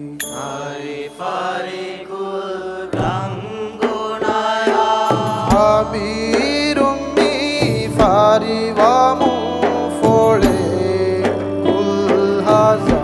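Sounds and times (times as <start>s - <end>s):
song with instrumental backing: 0.0s - 13.0s.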